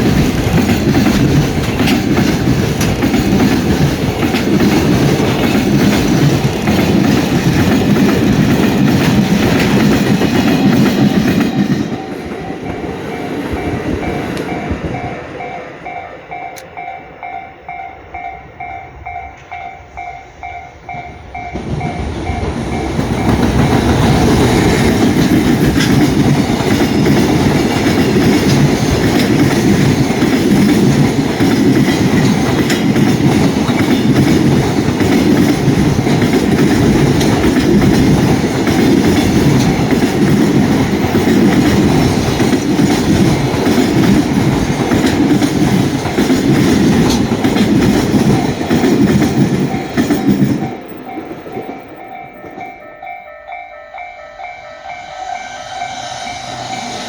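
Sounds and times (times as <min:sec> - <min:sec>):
train wheels clickety-clack: 0:00.0 - 0:15.4, 0:21.4 - 0:52.8
level crossing warning bell: 0:00.0 - 0:57.0.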